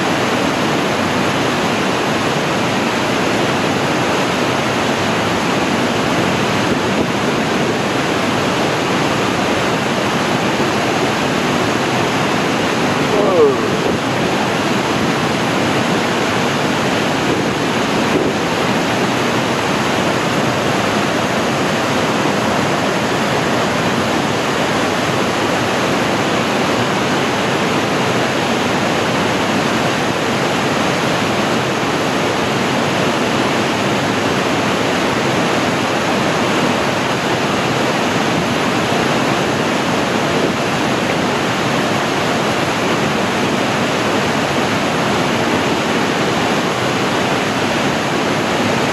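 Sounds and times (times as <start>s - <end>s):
roar of rushing water: 0.0s - 48.9s.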